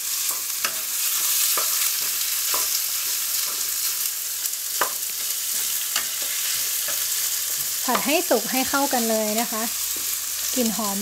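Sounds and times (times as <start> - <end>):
meat and onion sizzling in pan: 0.0 - 11.0.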